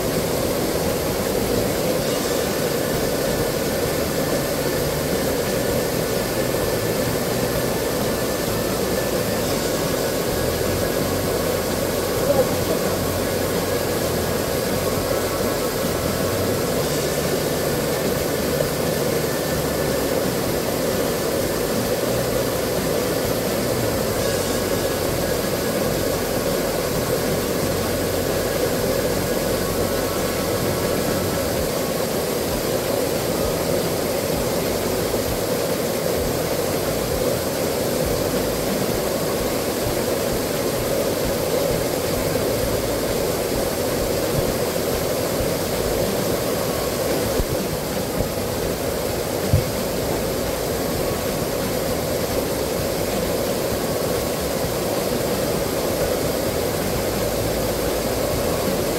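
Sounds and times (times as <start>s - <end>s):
stream water rushing over stones: 0.0s - 58.9s.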